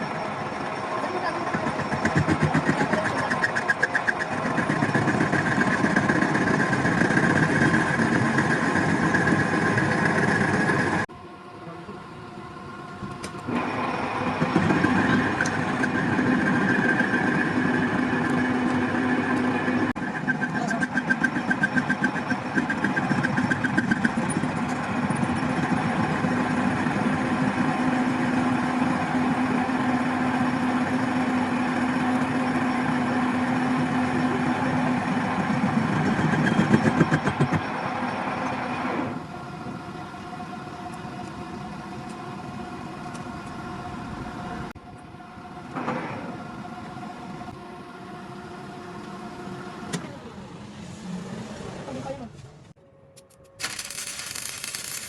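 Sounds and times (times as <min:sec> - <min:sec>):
machine whining and humming: 0:00.0 - 0:50.7, 0:52.8 - 0:55.0.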